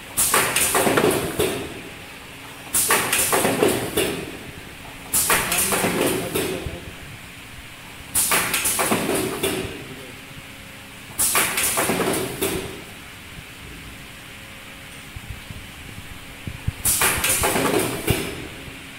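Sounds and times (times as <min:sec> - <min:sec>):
packing machine clatter and air: 0:00.0 - 0:06.9, 0:08.0 - 0:10.1, 0:11.1 - 0:13.8, 0:14.9 - 0:18.9
steady background hum: 0:00.0 - 0:18.9.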